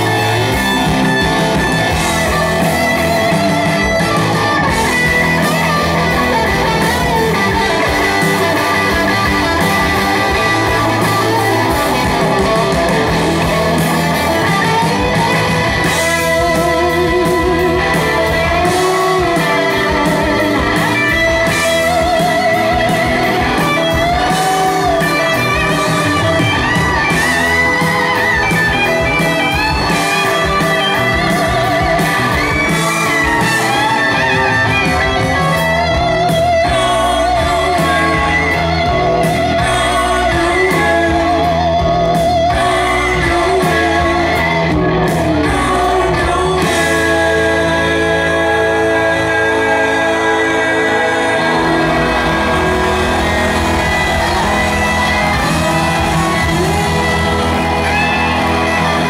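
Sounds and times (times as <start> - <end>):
electric guitars: 0.0 - 59.0
rock band playing live: 0.0 - 59.0.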